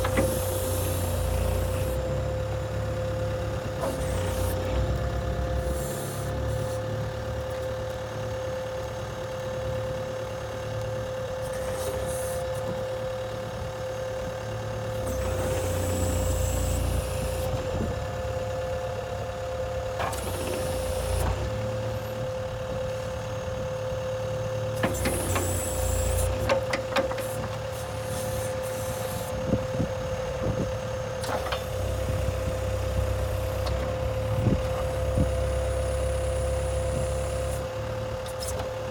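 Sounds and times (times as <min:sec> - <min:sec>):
engine rumbling with high whine: 0:00.0 - 0:38.9.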